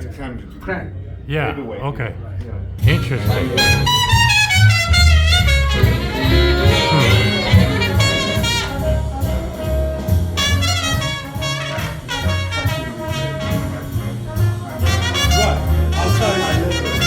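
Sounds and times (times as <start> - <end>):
jazz with brass and trumpet: 2.8 - 17.0
strong bass line: 2.8 - 17.0.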